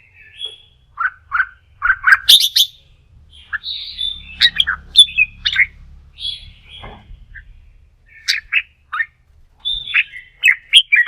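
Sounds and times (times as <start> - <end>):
bird song whistled notes: 0.0 - 11.0.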